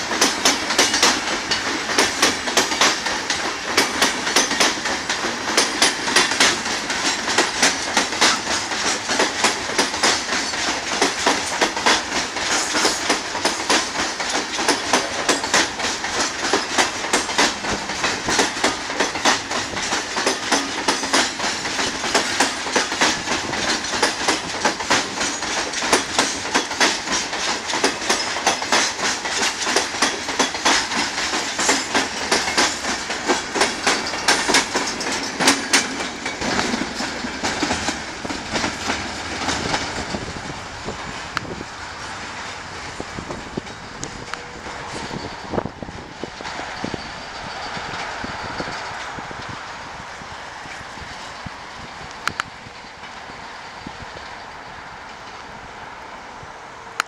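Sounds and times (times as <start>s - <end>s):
train wheels clattering over rails: 0.0s - 55.6s
rolling train rumble: 0.0s - 57.0s.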